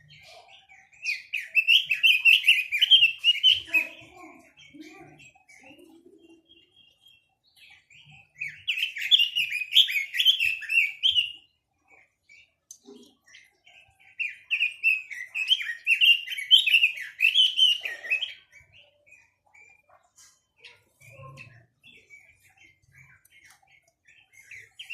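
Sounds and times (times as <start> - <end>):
bird chirps: 0.0 - 24.9
songbird warbling song: 0.0 - 24.9.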